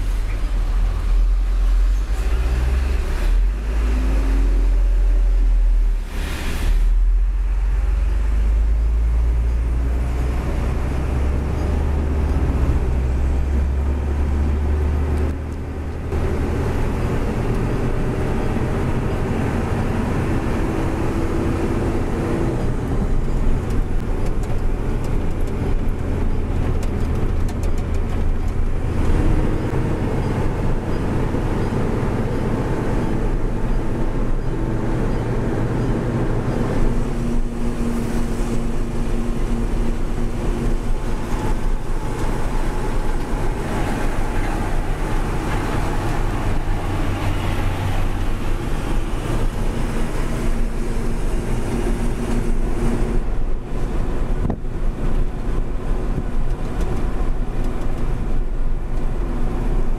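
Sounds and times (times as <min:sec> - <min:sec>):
diesel truck engine rumble: 0:00.0 - 0:59.9
road noise: 0:00.0 - 0:59.9.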